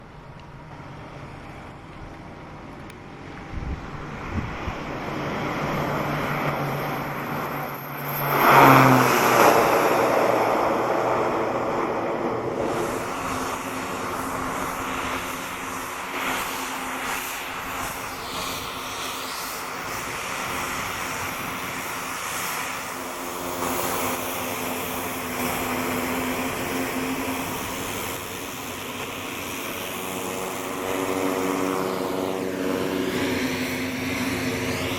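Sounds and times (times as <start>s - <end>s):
turboprop plane passing: 0.0s - 34.9s.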